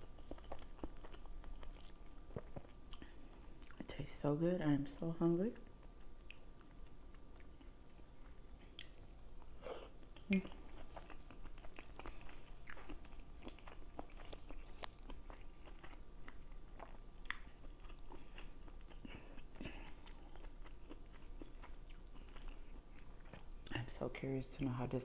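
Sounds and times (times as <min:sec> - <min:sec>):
person chewing food: 0:00.0 - 0:03.9, 0:05.6 - 0:23.7.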